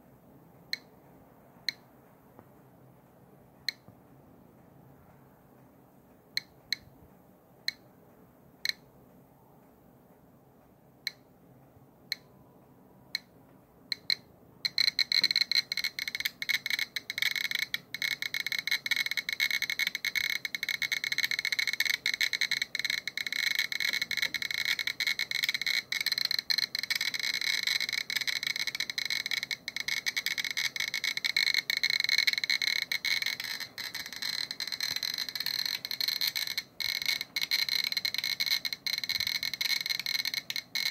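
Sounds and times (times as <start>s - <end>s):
geiger counter clicking: 0.6s - 2.0s, 3.6s - 4.0s, 6.2s - 8.0s, 8.6s - 9.0s, 11.0s - 40.9s.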